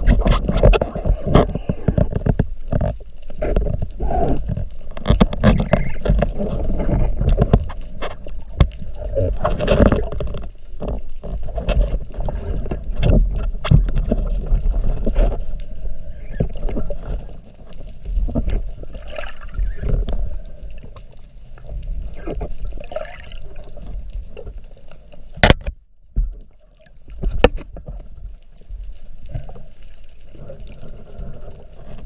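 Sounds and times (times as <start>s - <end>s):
water sloshing and gurgling: 0.0s - 32.0s.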